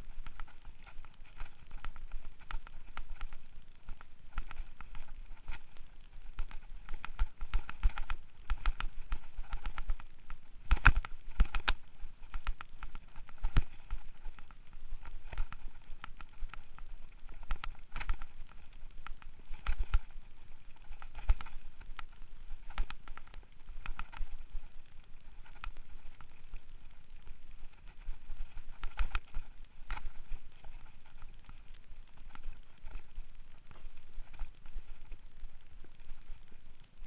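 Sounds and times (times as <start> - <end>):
mountain bike rattling: 0.0 - 37.0.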